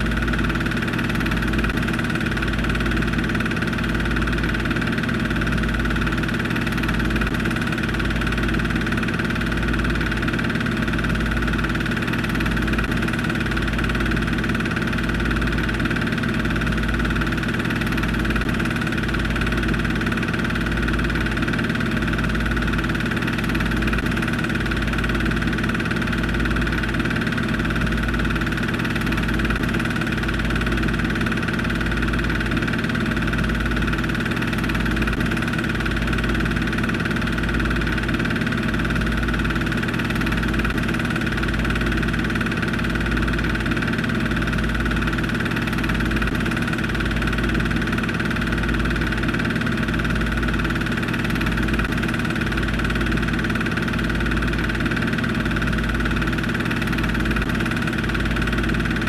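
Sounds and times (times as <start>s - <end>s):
mechanical hum with low throb: 0.0s - 59.0s.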